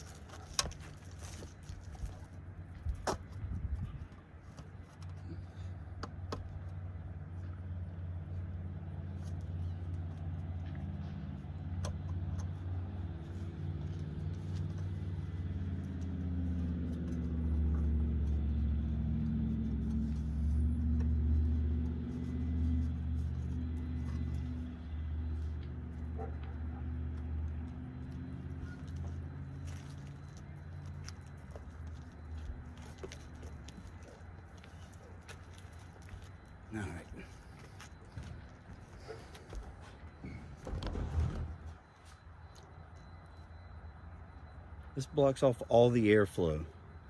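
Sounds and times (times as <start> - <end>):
engine humming at low speed: 0.0 - 47.0.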